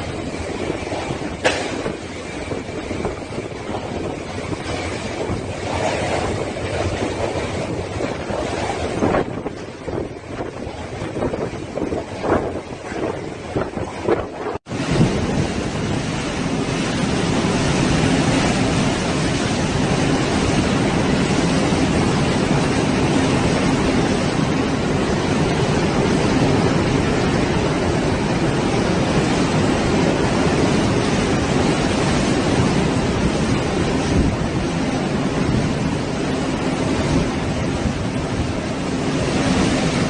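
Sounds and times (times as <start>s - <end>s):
loud rushing wind: 0.0s - 40.0s.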